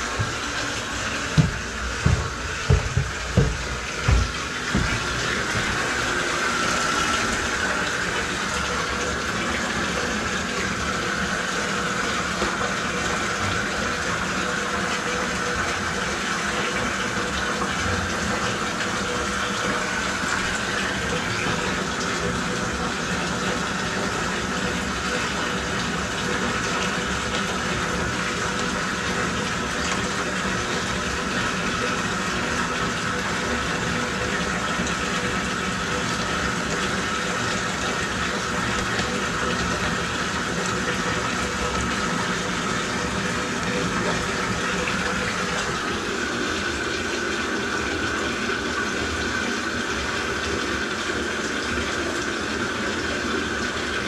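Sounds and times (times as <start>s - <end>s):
drain-cleaning machine whining: 0.0s - 54.0s.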